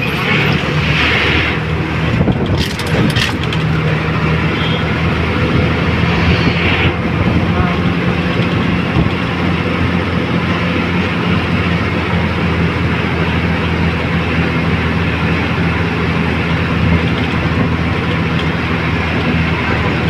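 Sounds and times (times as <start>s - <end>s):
bus engine droning: 0.0s - 20.0s
tyre and road noise: 0.0s - 20.0s.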